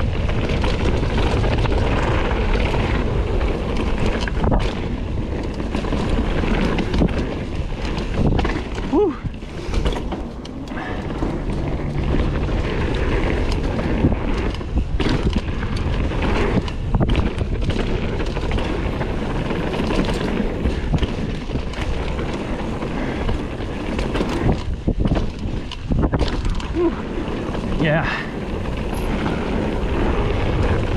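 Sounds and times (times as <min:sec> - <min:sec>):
bike clattering over bumps: 0:00.0 - 0:30.9
bike tyre noise: 0:00.0 - 0:30.9
wind on microphone: 0:00.0 - 0:30.9.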